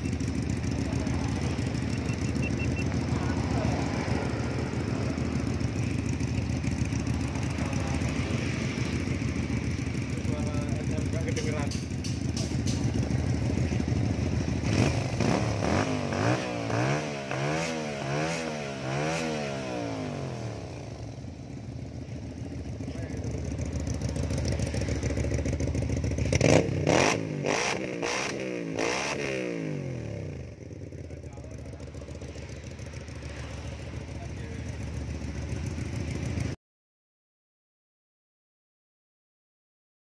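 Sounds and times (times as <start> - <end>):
motorcycle engine revving and idling: 0.0 - 36.6.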